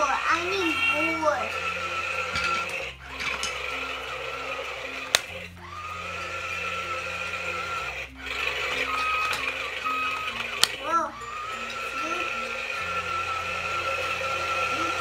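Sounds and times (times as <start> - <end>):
electronic toy tune: 0.0 - 15.0
steady high whine: 0.0 - 15.0.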